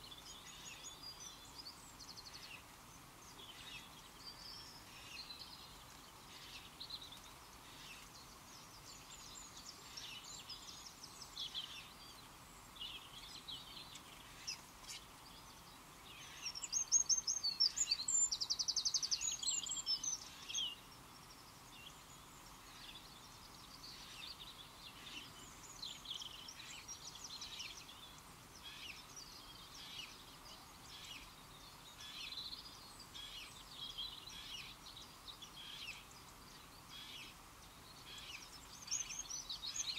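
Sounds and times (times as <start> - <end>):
bird song with rapid trill: 0.0 - 39.9
faint steady hiss: 0.0 - 39.9
songbirds singing: 0.0 - 39.9.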